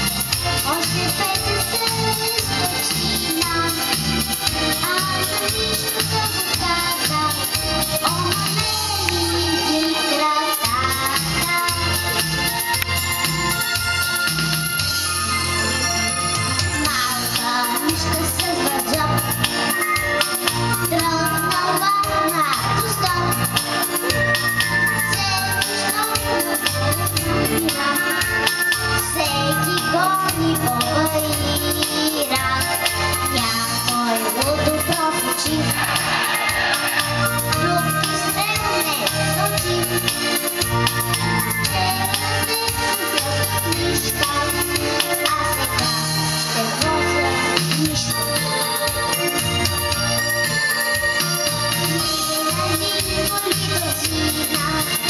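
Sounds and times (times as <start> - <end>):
backing music with steady beat: 0.0 - 55.0
boy singing into a microphone: 0.6 - 12.1, 16.8 - 35.8, 37.4 - 40.6, 41.3 - 49.2, 51.8 - 55.0.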